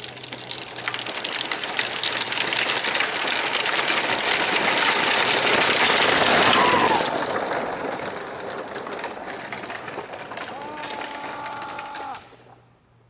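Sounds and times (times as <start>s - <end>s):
plastic toy wheels rattling: 0.0s - 12.7s.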